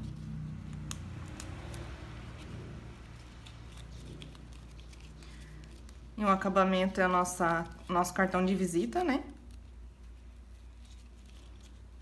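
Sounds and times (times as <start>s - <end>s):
ribbon rustling and scratching: 0.0s - 12.0s.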